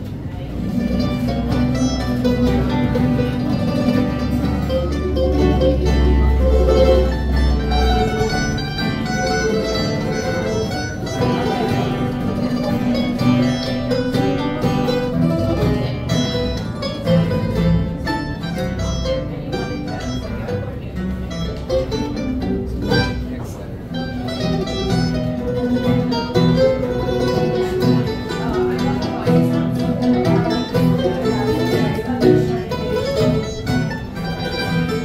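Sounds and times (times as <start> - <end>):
picked mandolin melody: 0.0 - 35.0
guitar strumming chords: 0.5 - 35.0.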